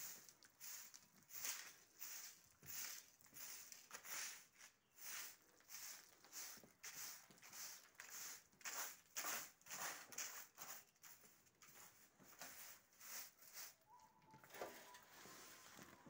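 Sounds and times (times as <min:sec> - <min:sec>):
broom sweeping concrete floor: 0:00.0 - 0:16.0.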